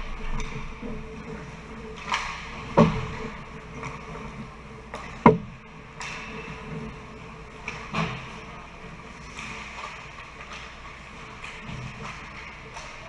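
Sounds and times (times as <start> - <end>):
steady background hum: 0.0 - 13.0
hockey sticks and puck clacking: 1.9 - 13.0.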